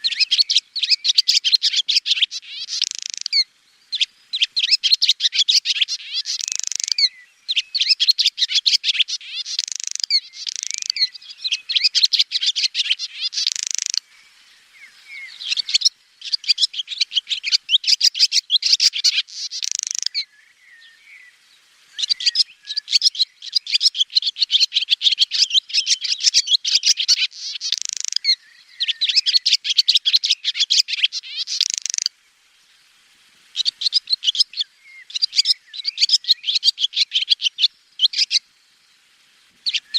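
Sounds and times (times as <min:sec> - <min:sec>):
swallow twittering: 0:00.0 - 0:21.3, 0:21.9 - 0:32.1, 0:33.5 - 0:38.5, 0:39.6 - 0:39.9.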